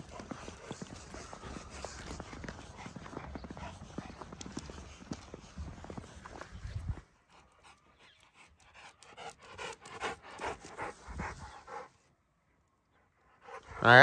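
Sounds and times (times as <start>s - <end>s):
dog panting quickly: 0.0s - 12.0s, 13.3s - 14.0s.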